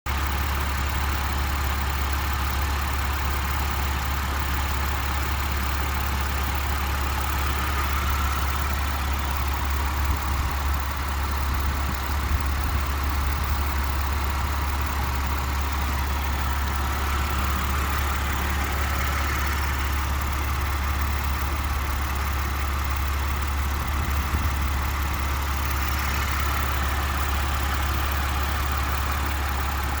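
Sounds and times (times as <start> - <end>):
car engine idling: 0.1 - 30.0.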